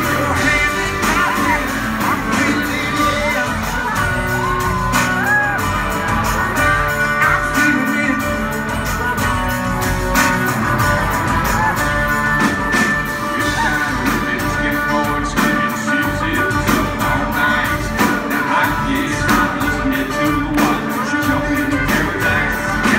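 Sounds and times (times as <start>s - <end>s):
person singing: 0.0s - 9.5s, 11.3s - 22.9s
live country-rock band: 0.0s - 22.9s.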